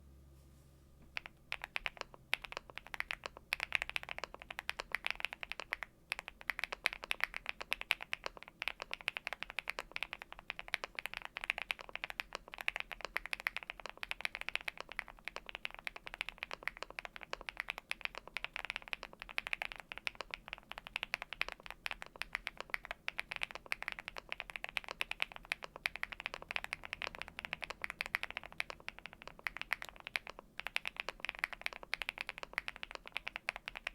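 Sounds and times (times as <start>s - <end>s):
fast typing on mechanical keyboard: 1.2s - 33.9s.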